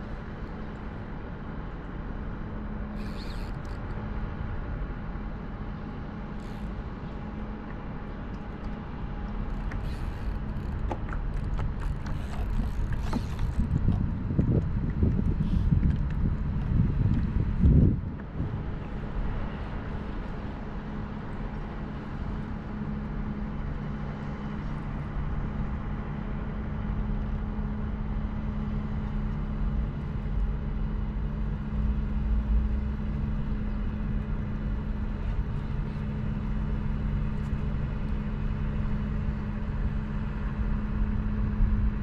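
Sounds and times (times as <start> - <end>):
low motor hum: 0.0 - 42.0
low wind rumble: 0.0 - 42.0.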